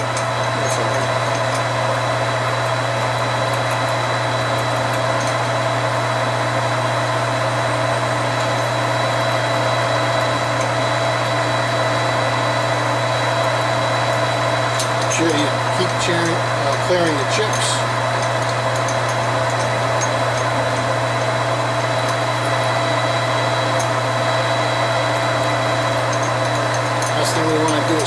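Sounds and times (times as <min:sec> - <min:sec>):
drill cutting steel: 0:00.0 - 0:28.0
metal lathe humming: 0:00.0 - 0:28.0
steady machine whine: 0:00.0 - 0:28.0.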